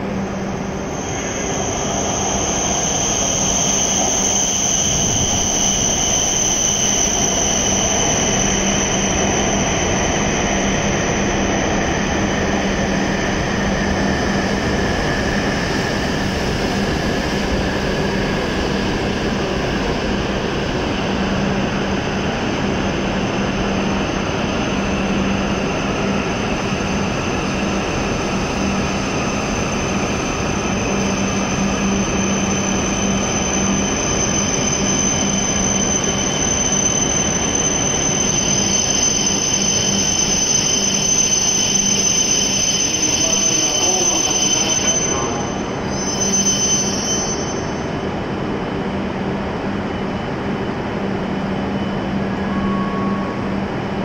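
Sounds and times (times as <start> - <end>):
steady hum: 0.0 - 54.0
train rumbling: 0.0 - 54.0
high brake squeal: 0.4 - 18.9, 23.2 - 48.2, 51.7 - 53.7.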